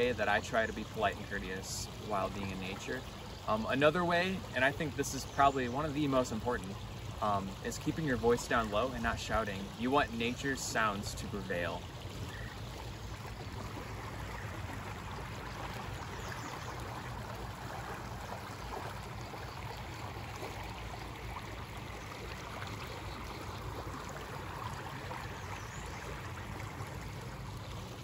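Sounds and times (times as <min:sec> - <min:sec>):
creek babbling over rocks: 0:00.0 - 0:28.0.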